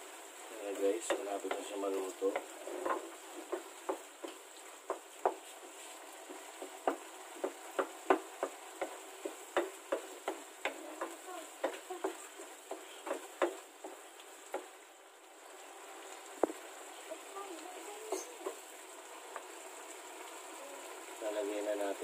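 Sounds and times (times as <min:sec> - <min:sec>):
sauce sizzling: 0:00.0 - 0:22.0.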